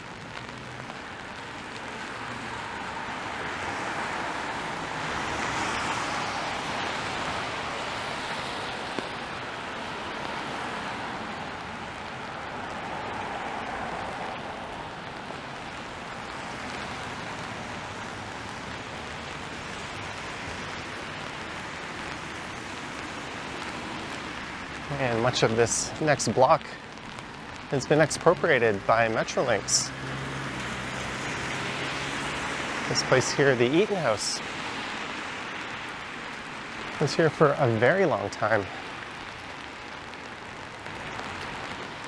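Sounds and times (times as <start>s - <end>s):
car tyres on wet pavement: 0.0s - 42.0s
rain hissing: 0.0s - 42.0s.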